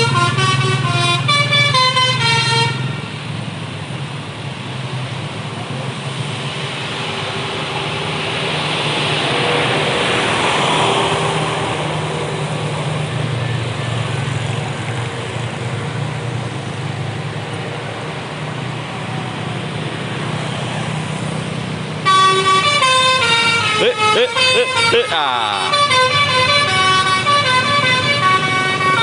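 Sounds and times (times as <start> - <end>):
vehicle engine passing: 4.7 - 29.0.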